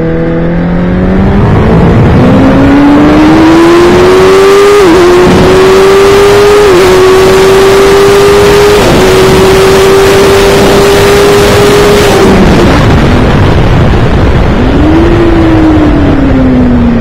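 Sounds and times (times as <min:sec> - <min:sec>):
motorcycle engine revving high: 0:00.0 - 0:17.0
wind rush: 0:00.0 - 0:17.0.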